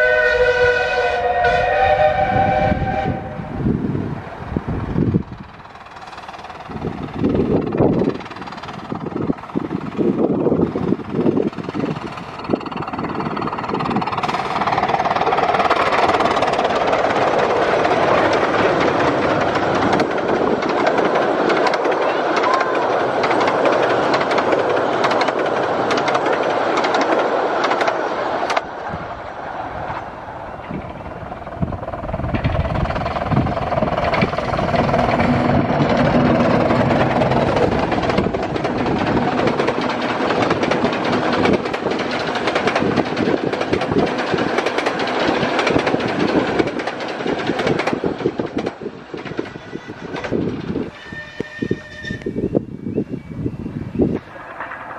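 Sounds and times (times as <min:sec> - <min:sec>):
steam train running: 0:00.0 - 0:54.9
wheels clicking over rails: 0:05.1 - 0:28.9, 0:29.8 - 0:52.3.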